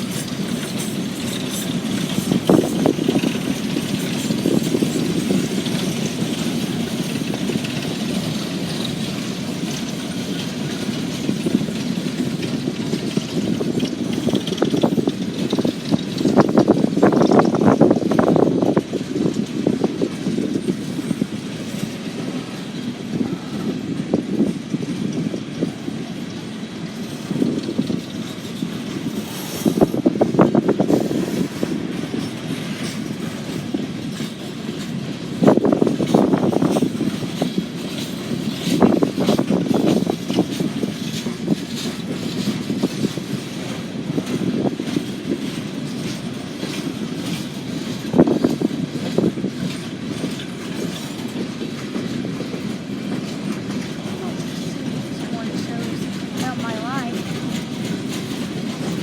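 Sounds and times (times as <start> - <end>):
train wheels rumbling on rail: 0.0 - 59.0
wheels clacking over rail joints: 0.0 - 59.0.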